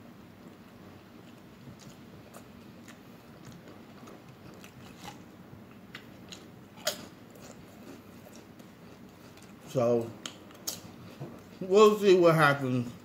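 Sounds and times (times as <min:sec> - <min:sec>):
man chewing wetly: 0:00.4 - 0:11.6.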